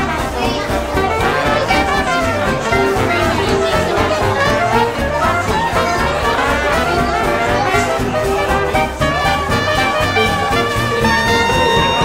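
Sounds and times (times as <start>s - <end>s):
jazz music with brass: 0.0s - 12.0s.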